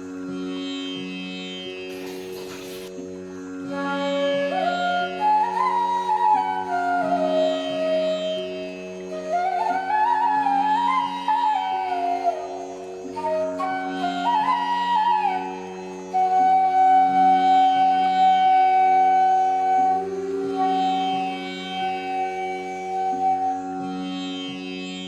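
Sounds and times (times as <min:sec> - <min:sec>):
flute melody over a drone: 0:00.0 - 0:25.0.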